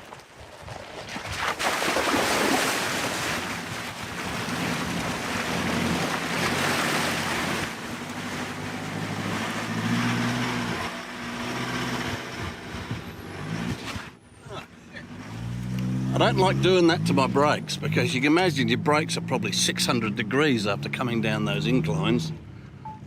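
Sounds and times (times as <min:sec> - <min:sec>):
water splashing and rushing: 0:00.0 - 0:22.3
vehicle engine running: 0:03.6 - 0:23.0.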